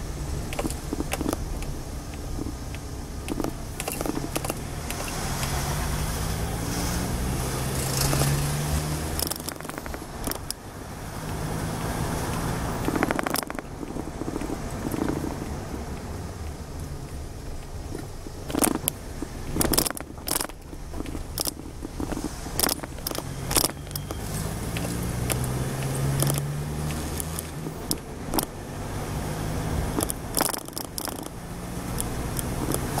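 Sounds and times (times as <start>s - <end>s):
car engine and road rumble: 0.0s - 33.0s
sharp clicks and rattles: 0.2s - 33.0s.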